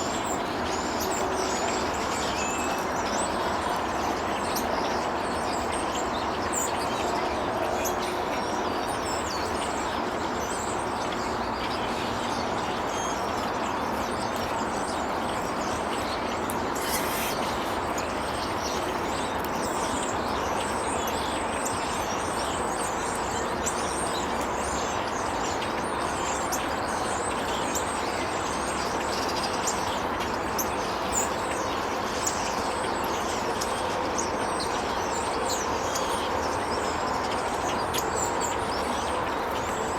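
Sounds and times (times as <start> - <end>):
small birds chirping: 0.0 - 39.9
steady background noise: 0.0 - 39.9.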